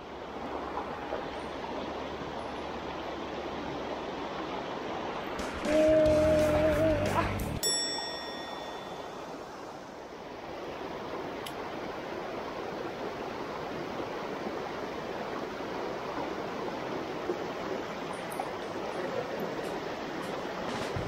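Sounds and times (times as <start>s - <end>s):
river rushing over stones: 0.0s - 7.0s, 7.6s - 21.0s.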